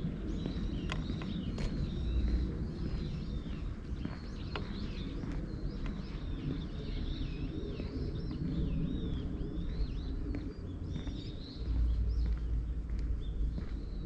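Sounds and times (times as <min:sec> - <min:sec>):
low rumble: 0:00.0 - 0:14.0
small birds chirping: 0:00.0 - 0:14.0.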